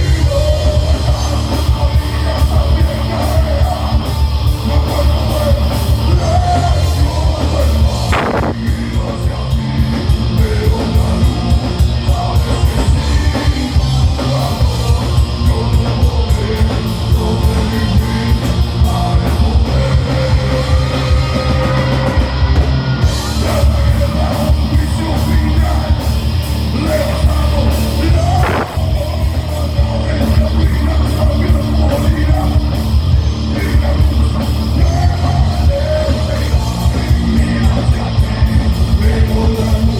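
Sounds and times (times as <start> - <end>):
heavy metal band playing live: 0.0 - 39.9
yelled vocals: 0.0 - 39.9.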